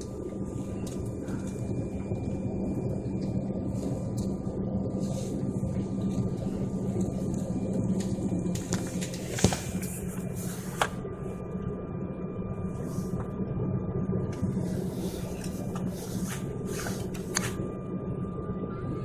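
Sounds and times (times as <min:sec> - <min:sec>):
faint whine: 0:00.0 - 0:19.0.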